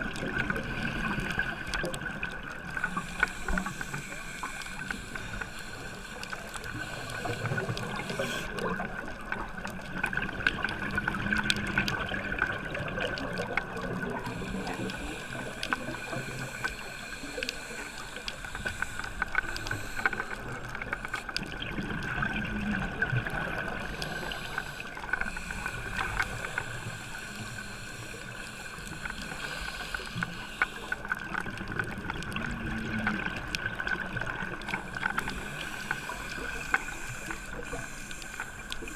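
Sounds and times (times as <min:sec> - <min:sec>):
crackle of clicks: 0:00.0 - 0:38.9
underwater bubbles gurgling: 0:00.0 - 0:38.9.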